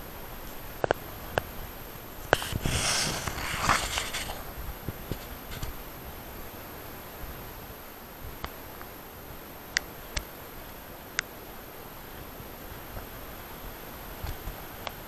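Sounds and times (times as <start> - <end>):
rustling hiss: 0.0 - 15.0.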